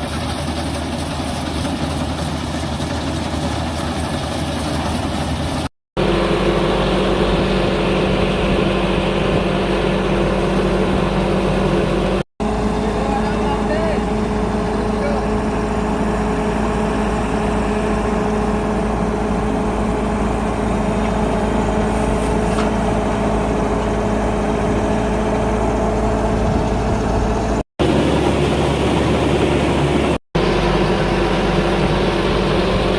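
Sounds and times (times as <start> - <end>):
combine harvester engine humming: 0.0 - 32.9.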